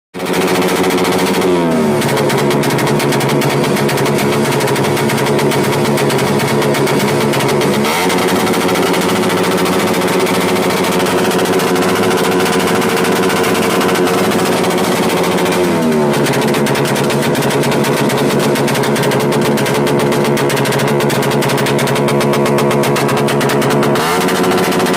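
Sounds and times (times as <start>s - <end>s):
motorcycle engine popping: 0.2s - 24.9s.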